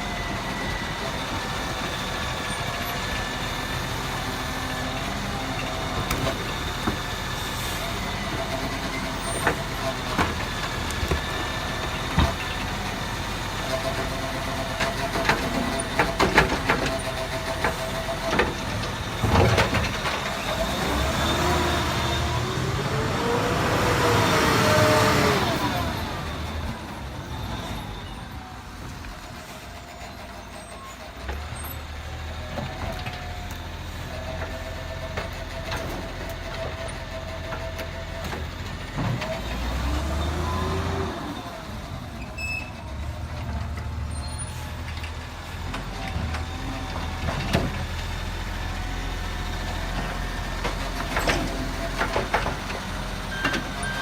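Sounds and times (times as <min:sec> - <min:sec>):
garbage truck diesel engine: 0:00.0 - 0:54.0.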